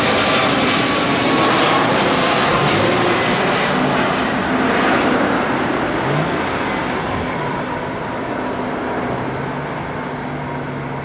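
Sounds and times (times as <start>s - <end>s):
jet engine noise: 0.0s - 11.0s
road traffic: 0.0s - 11.0s.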